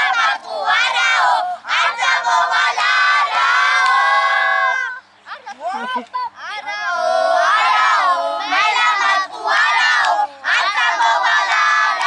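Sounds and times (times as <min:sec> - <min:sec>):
children chanting and shouting: 0:00.0 - 0:12.0.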